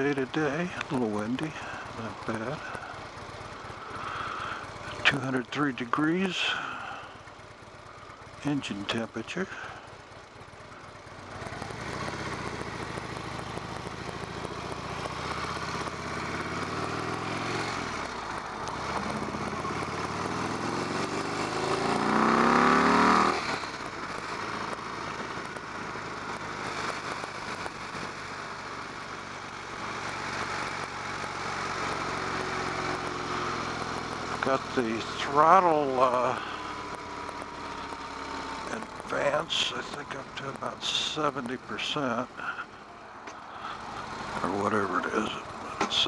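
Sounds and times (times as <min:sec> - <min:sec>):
motorcycle accelerating: 0:00.0 - 0:46.0
wind and road noise: 0:00.0 - 0:46.0.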